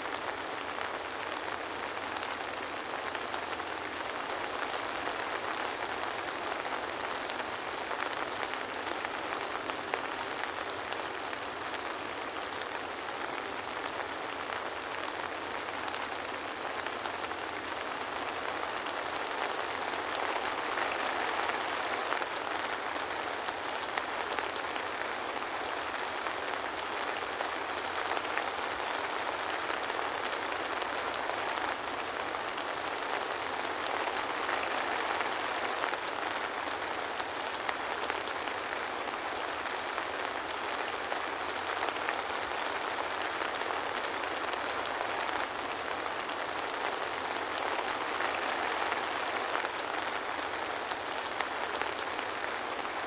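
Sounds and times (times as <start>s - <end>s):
soft rain hissing: 0.0s - 53.0s.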